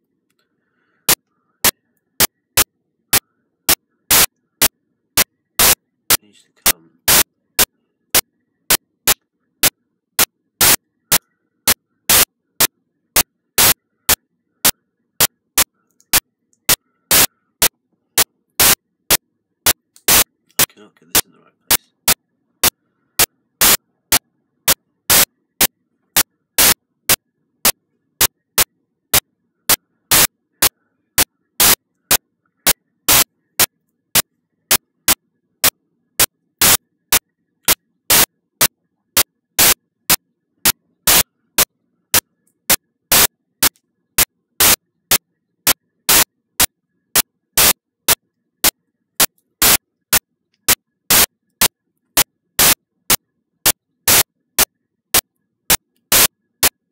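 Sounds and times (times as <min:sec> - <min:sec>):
short bursts of static: 0:00.6 - 0:56.9.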